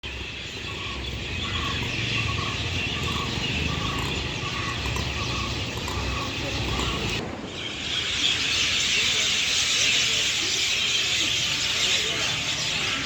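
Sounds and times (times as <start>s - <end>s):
birds chattering chorus: 0.0s - 13.0s.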